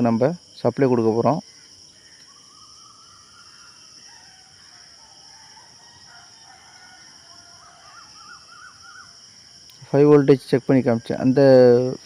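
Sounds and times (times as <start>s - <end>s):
distant bird calls: 0.0s - 12.0s
high insect drone: 0.0s - 12.0s.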